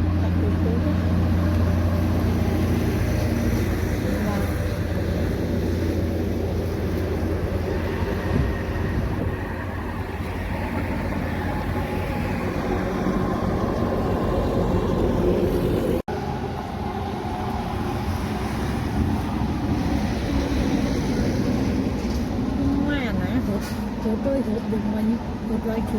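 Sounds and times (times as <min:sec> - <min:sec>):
heavy trucks passing: 0:00.0 - 0:25.9.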